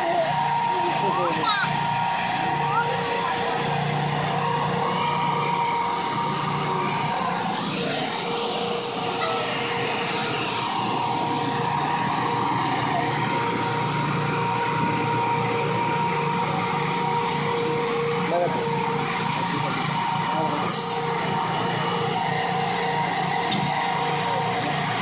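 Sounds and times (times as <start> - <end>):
fire truck engine running: 0.0 - 25.0.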